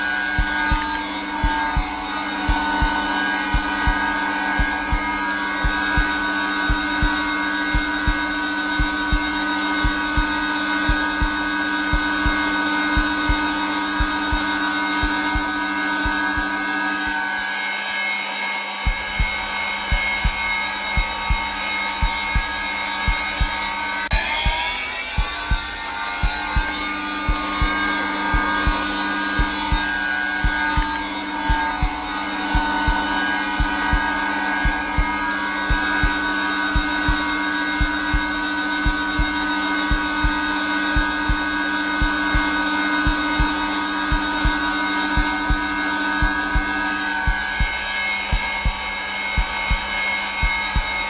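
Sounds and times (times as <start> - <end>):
heartbeat low thumps: 0.0 - 17.2, 18.8 - 51.0
vacuum cleaner motor whine: 0.0 - 51.0.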